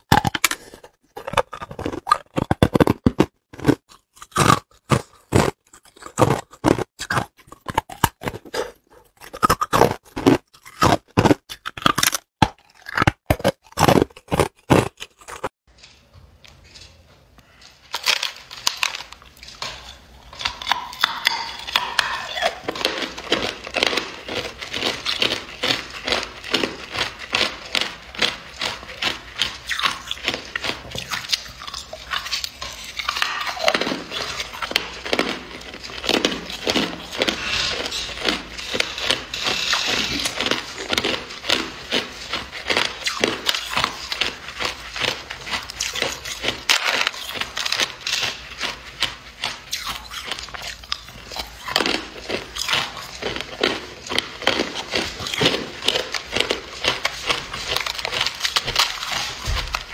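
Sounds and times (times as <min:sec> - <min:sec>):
ice crunching while chewed: 0:00.0 - 0:16.0, 0:16.6 - 0:59.9.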